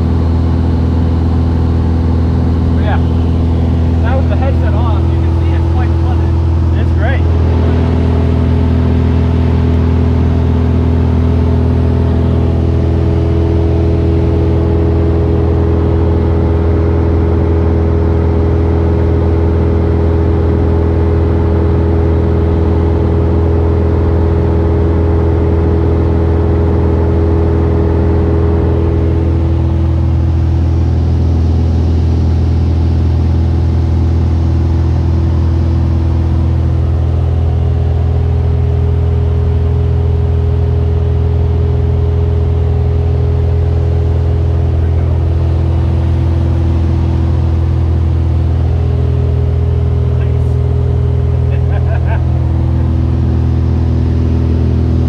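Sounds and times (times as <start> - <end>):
higher hum: 0.0 - 23.6, 26.6 - 55.0
aircraft engine and propeller drone: 0.0 - 55.0.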